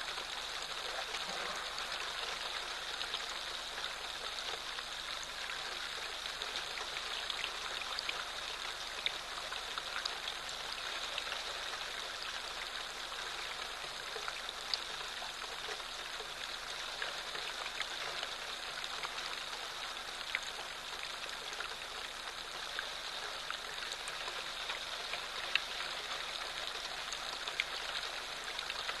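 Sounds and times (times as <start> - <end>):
light rain falling: 0.0 - 29.0
raindrops ticking on surfaces: 0.0 - 29.0.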